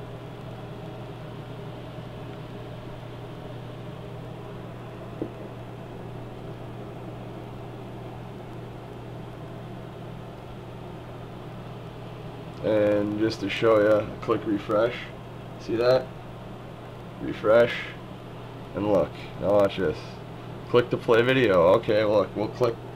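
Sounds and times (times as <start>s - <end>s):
low hum with hiss: 0.0s - 22.9s.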